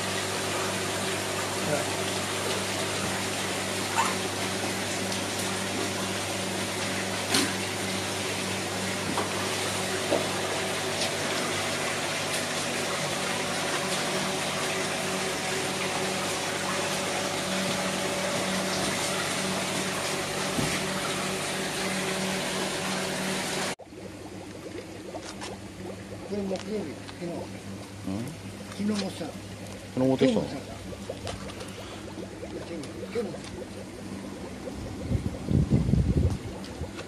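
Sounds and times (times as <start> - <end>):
air bubbling in aquarium: 0.0 - 37.0
air pump hum: 0.0 - 37.0.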